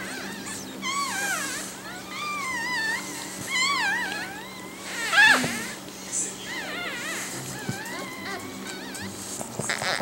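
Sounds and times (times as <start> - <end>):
puppy squealing: 0.0 - 10.0.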